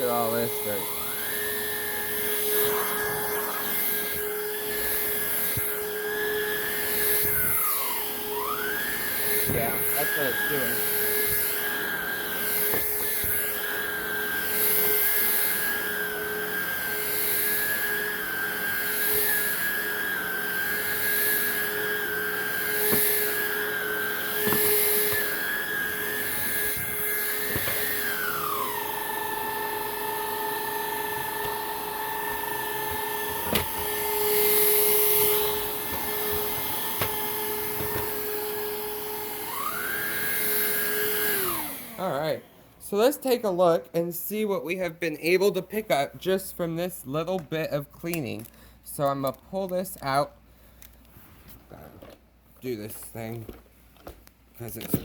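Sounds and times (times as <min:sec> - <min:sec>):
vacuum cleaner running: 0:00.0 - 0:48.2.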